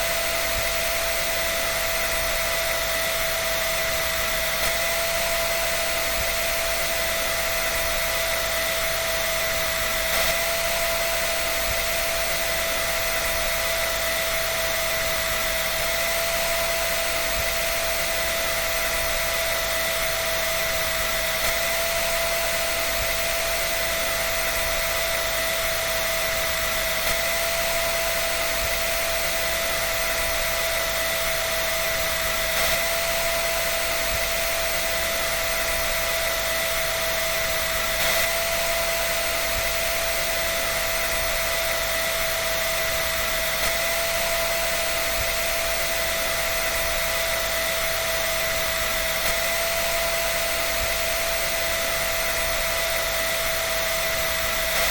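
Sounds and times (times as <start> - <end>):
dryer running with whine: 0.0 - 54.9.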